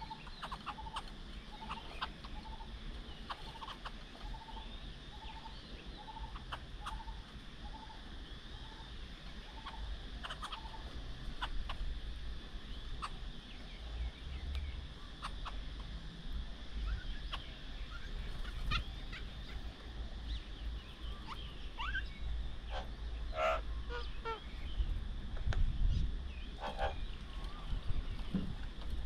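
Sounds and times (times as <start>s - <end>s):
birds chirping and calling: 0.0s - 11.9s, 12.5s - 16.0s, 16.6s - 28.8s
steady low rumble: 0.0s - 29.0s.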